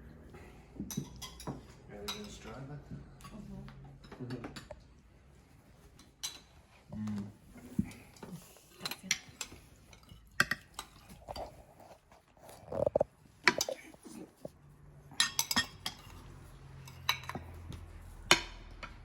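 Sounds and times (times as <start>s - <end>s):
bowls and utensils clinking: 0.8s - 4.8s, 5.8s - 7.0s, 7.6s - 19.0s.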